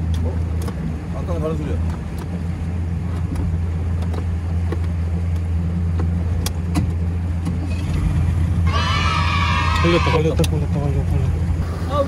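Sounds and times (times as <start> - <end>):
motorboat engine humming: 0.0 - 12.0.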